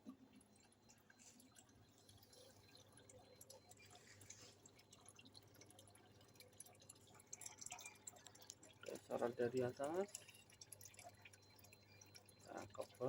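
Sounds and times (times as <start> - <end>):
aquarium water dripping: 0.0 - 13.0.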